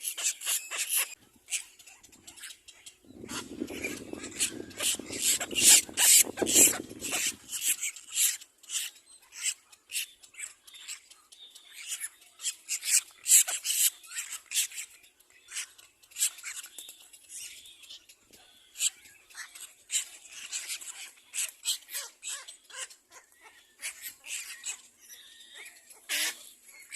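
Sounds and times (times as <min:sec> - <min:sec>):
chicks begging calls: 0:00.1 - 0:11.2, 0:11.8 - 0:26.9.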